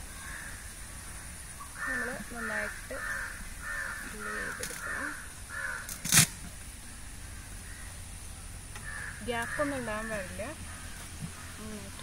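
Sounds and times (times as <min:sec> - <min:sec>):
crows cawing: 0:00.1 - 0:06.1, 0:06.8 - 0:08.1, 0:08.8 - 0:11.6.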